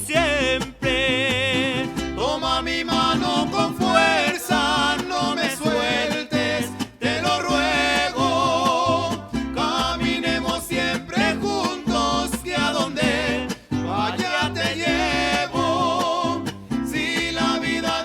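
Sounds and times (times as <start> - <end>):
plucked bass line: 0.0 - 17.4
strummed guitars: 0.0 - 18.0.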